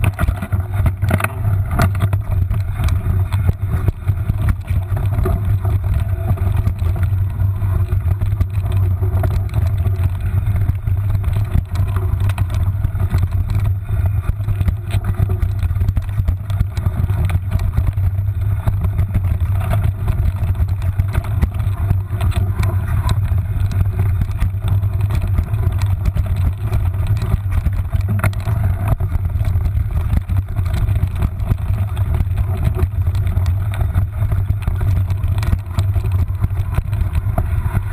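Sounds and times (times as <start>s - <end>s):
bike knocks and rattles: 0.0s - 37.9s
mountain bike rumbling on trail: 0.0s - 37.9s.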